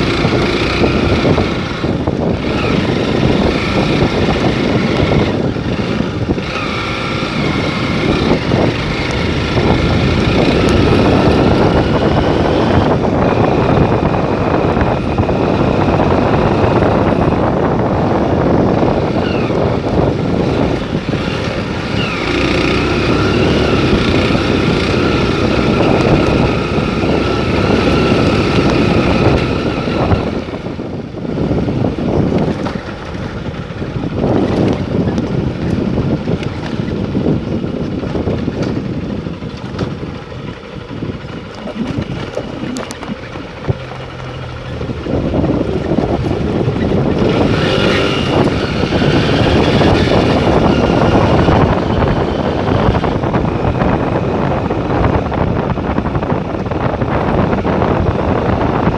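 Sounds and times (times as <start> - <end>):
motor vehicle driving: 0.0 - 58.9
wind buffeting microphone: 0.0 - 58.9.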